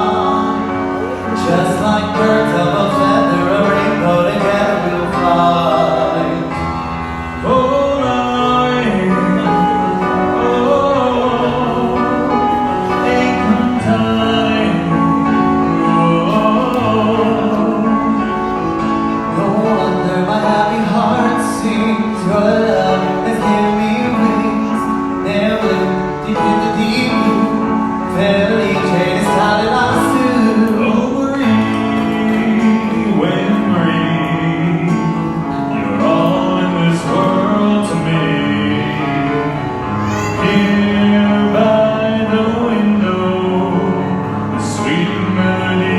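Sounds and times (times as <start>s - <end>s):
duo singing operatically: 0.0s - 45.9s
instrumental accompaniment: 0.0s - 45.9s.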